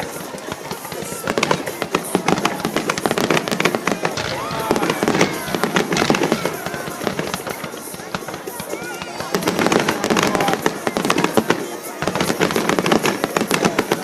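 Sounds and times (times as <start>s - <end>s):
fireworks popping and crackling: 0.0s - 14.0s
music playing: 0.0s - 14.0s.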